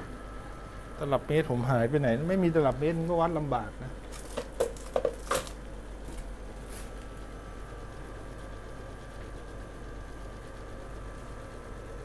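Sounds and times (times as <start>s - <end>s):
low room hum and hiss: 0.0s - 12.0s.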